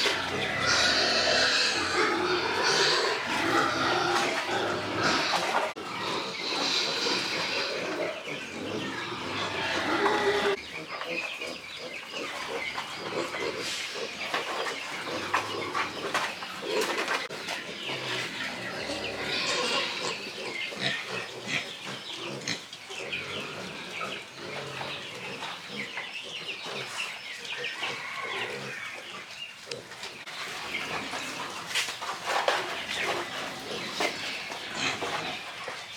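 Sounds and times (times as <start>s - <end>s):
piglets grunting and squealing: 0.0s - 30.3s.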